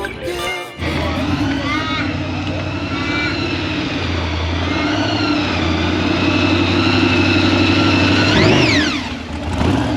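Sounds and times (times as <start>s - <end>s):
car engine idling and revving: 1.0s - 9.9s.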